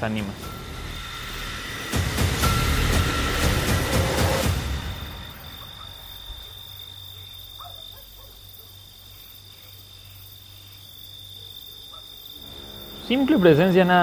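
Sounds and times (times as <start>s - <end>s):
cricket trill: 0.0s - 14.0s.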